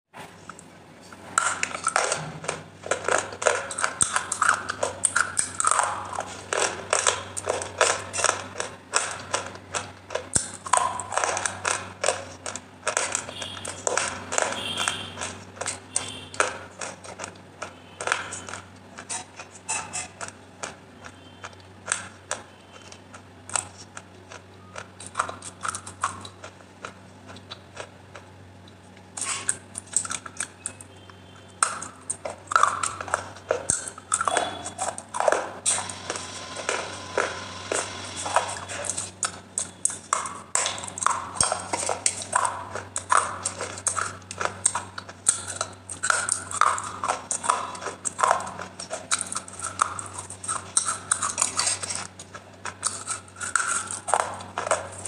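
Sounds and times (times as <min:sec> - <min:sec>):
wet clay squished and eaten: 0:01.4 - 0:31.0, 0:31.6 - 0:55.0.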